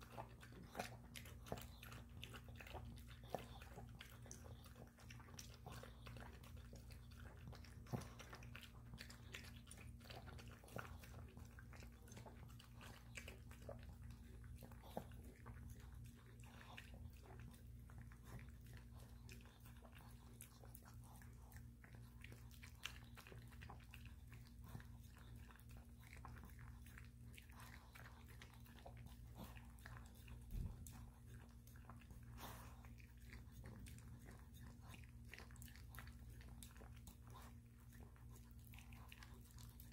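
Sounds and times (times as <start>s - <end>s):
dog lapping and chewing: 0.0s - 39.9s.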